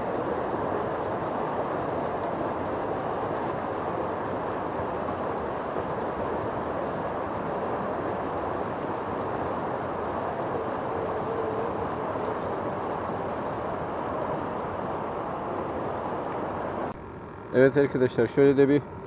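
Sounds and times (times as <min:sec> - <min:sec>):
river rushing over rapids: 0:00.0 - 0:16.9.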